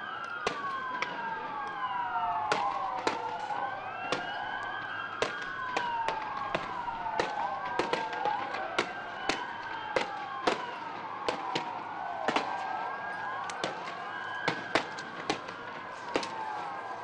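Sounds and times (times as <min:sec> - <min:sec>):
police sirens wailing: 0:00.0 - 0:17.0.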